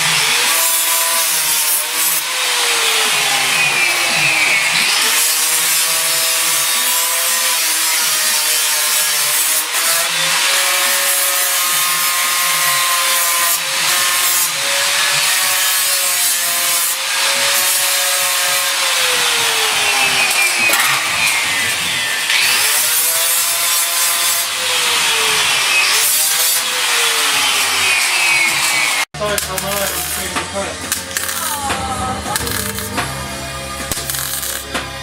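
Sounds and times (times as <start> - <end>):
angle grinder cutting steel: 0.0 - 35.0.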